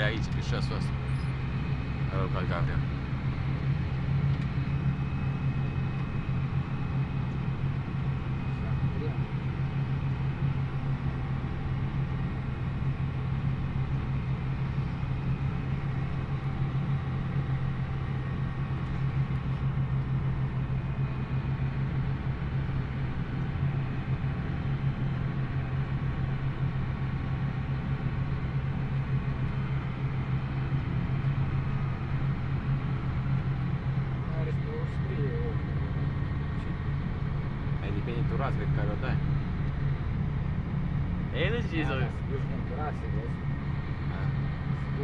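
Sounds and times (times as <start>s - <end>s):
tractor diesel engine droning: 0.0s - 45.0s.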